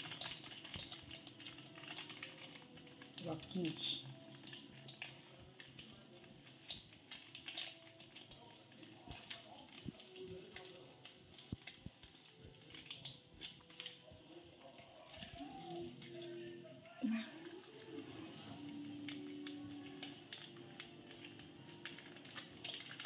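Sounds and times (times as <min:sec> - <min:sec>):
sharp ticks and crackles: 0:00.0 - 0:16.5, 0:17.5 - 0:23.0
popcorn kernels sizzling in oil: 0:00.0 - 0:23.0.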